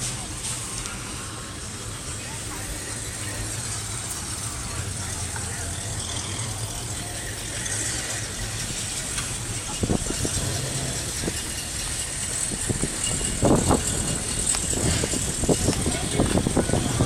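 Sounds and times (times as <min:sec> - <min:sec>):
car engine running: 0:00.0 - 0:17.0
street noise: 0:00.0 - 0:17.0.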